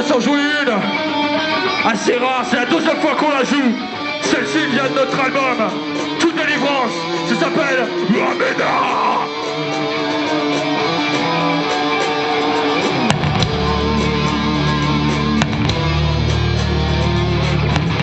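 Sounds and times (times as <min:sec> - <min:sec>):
electric guitar melodic intro: 0:00.0 - 0:18.0
heavy metal band playing: 0:00.0 - 0:18.0.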